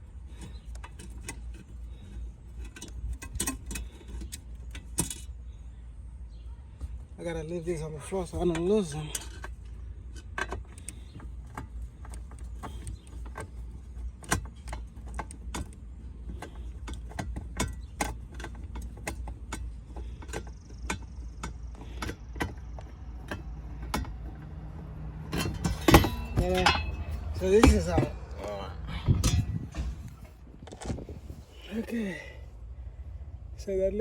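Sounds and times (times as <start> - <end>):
steady low hum: 0.0 - 34.0
hand tools clicking and rattling: 0.3 - 5.3, 8.0 - 28.5, 29.1 - 32.3.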